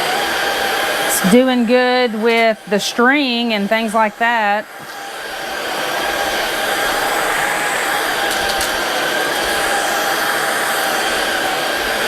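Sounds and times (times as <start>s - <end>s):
stick vacuum running: 0.0s - 12.0s.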